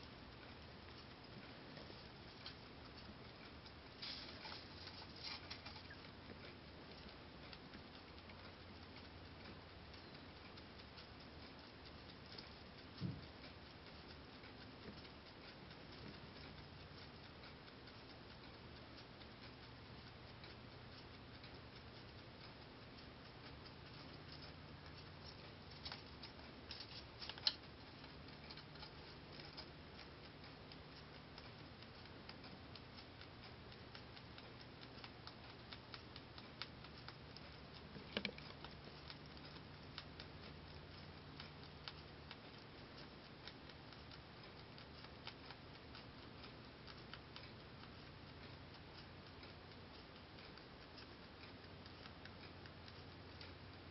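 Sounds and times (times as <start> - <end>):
rabbit chewing hay: 0.0 - 53.9.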